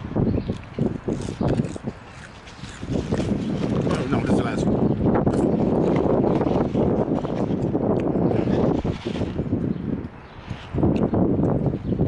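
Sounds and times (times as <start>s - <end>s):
wind gusting against microphone: 0.0s - 12.0s.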